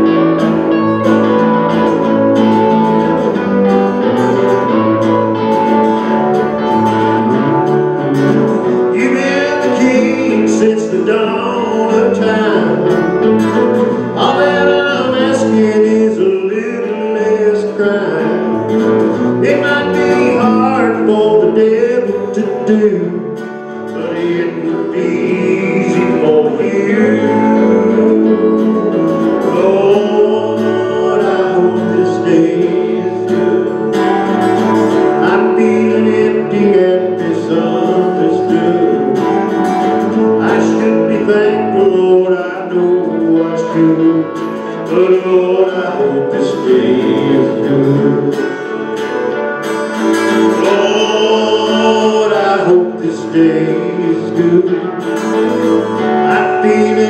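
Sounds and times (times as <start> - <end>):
country gospel band playing: 0.0 - 57.0
electric bass notes: 0.0 - 57.0.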